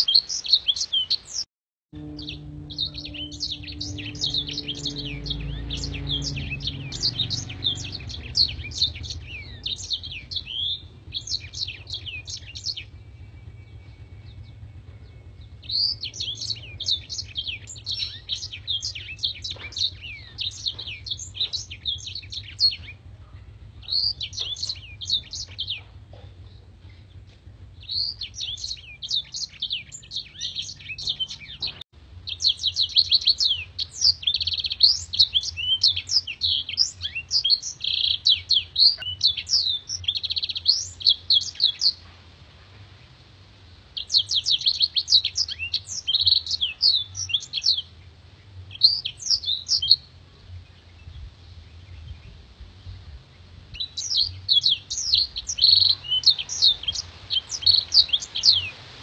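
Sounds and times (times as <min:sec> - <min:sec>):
canary singing: 0:00.0 - 0:42.0, 0:44.0 - 0:50.1, 0:53.7 - 0:59.0.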